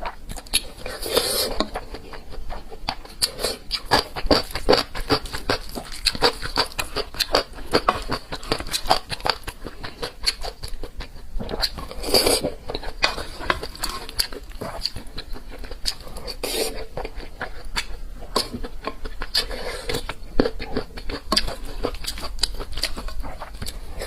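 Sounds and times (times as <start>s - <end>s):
wet chewing with mouth clicks: 0.0s - 24.0s.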